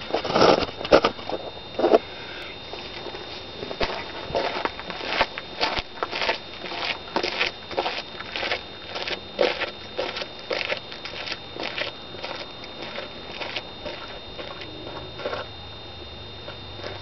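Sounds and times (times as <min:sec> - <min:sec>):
footsteps on gravel: 0:00.0 - 0:02.0, 0:02.6 - 0:15.6, 0:16.4 - 0:17.0
walking cane crunching on gravel: 0:00.0 - 0:17.0.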